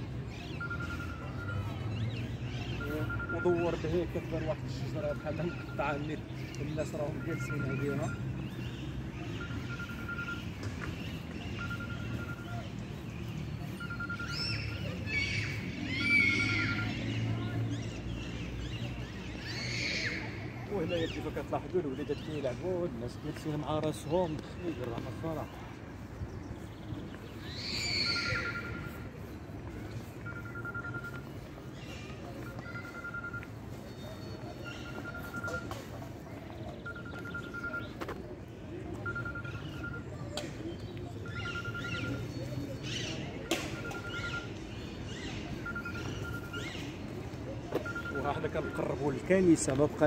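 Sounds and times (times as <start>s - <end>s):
open-air park ambience: 0.0s - 50.0s.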